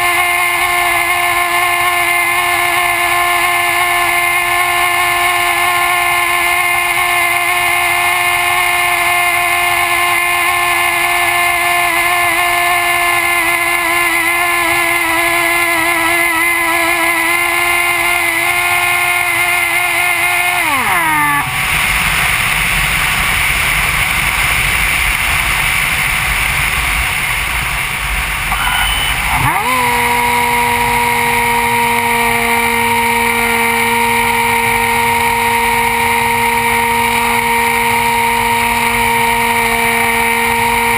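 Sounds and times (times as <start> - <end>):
electric motor and propeller whine: 0.0 - 40.9.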